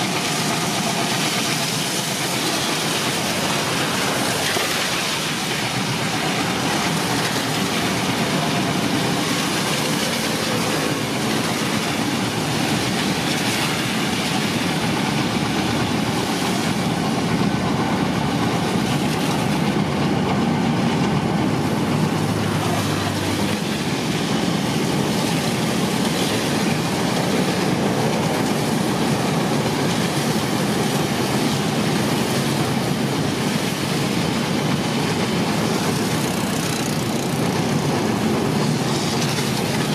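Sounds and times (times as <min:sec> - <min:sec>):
train running on rails: 0:00.0 - 0:39.9.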